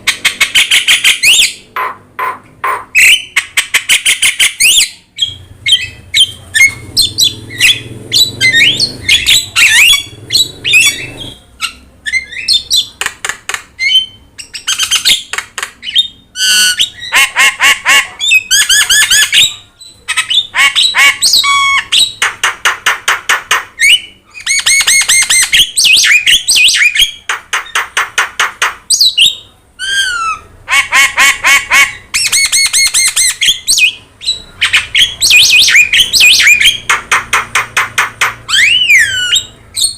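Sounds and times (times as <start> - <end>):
myna bird squawking and whistling: 0.0 - 13.0, 13.8 - 39.9.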